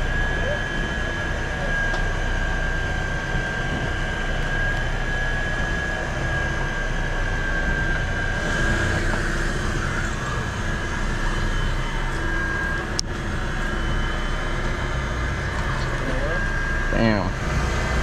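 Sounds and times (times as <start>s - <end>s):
boat machinery low hum: 0.0s - 18.0s
high machinery whine: 0.0s - 18.0s.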